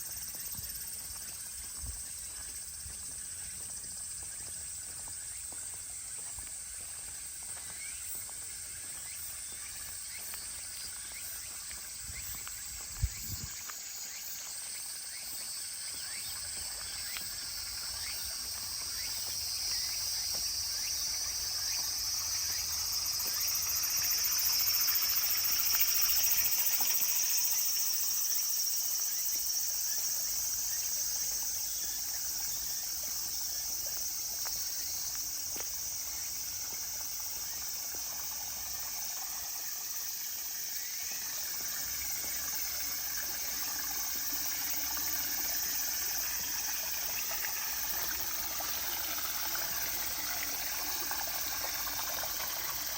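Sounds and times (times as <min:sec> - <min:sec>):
insects trilling: 0:00.0 - 0:52.9
stream trickling: 0:00.0 - 0:52.9.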